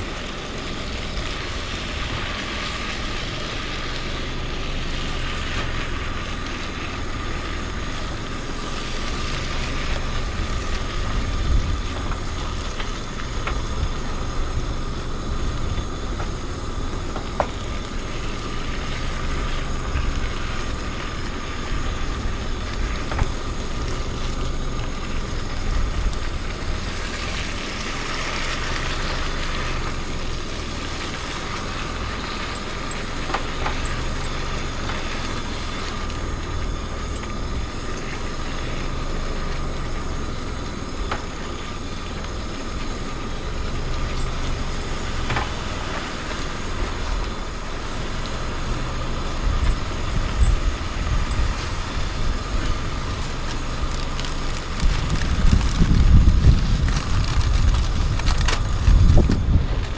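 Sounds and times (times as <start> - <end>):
low rumble: 0.0 - 59.9.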